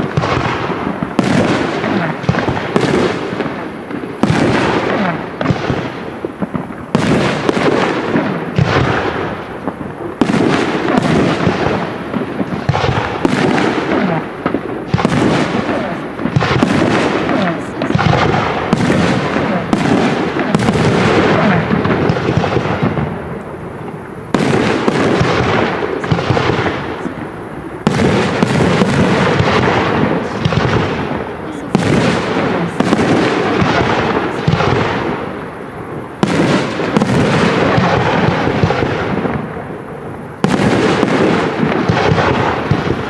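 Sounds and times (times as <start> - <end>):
fireworks bursting: 0.0 - 43.0
fireworks crackle and rumble: 0.0 - 43.0.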